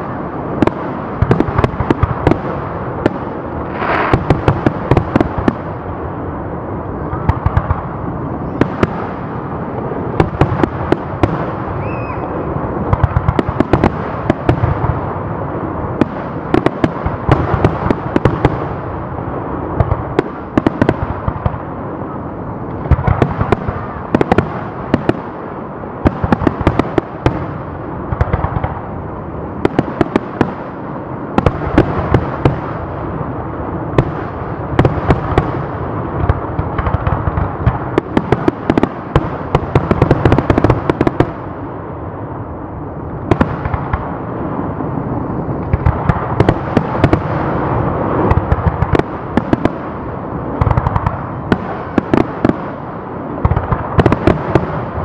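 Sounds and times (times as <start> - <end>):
continuous rumble: 0.0 - 55.0
fireworks bangs and crackle: 0.0 - 55.0.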